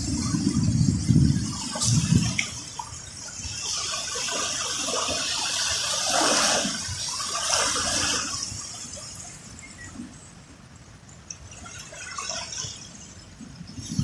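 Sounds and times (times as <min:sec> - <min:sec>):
small waves washing ashore: 0:00.0 - 0:14.0.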